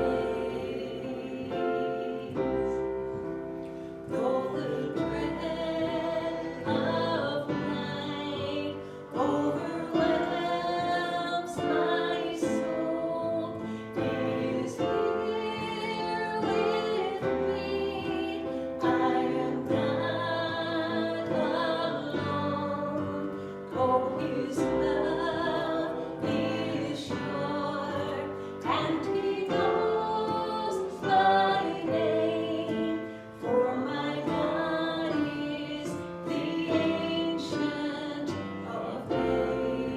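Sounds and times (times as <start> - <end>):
choir singing a hymn: 0.0 - 39.9
instrumental accompaniment: 0.0 - 39.9.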